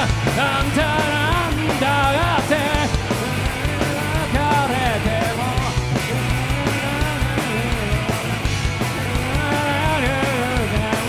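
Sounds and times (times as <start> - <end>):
bass guitar: 0.0 - 11.0
electric guitar: 0.0 - 11.0
steady drum beat: 0.0 - 11.0.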